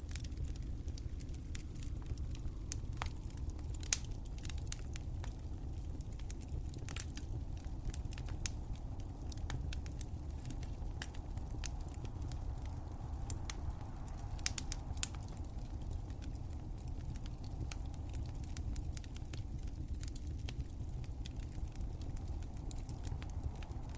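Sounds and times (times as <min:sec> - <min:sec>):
low fire rumble: 0:00.0 - 0:23.9
wood fire crackling and popping: 0:00.0 - 0:23.9.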